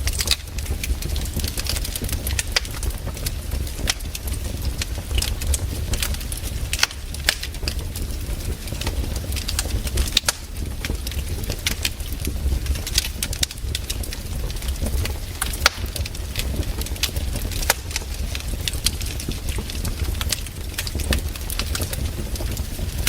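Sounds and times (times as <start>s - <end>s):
burning wood popping: 0.0s - 23.0s
campfire crackling: 0.0s - 23.0s.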